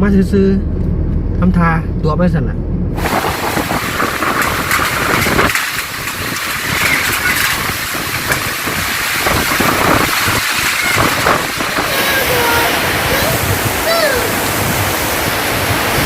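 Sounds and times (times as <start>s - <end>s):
wind gusting on microphone: 0.6s - 16.0s
heavy rain hissing: 3.0s - 16.0s.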